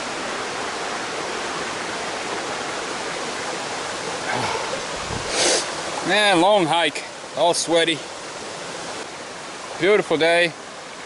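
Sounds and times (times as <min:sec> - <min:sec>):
brook running over rocks: 0:00.0 - 0:11.0.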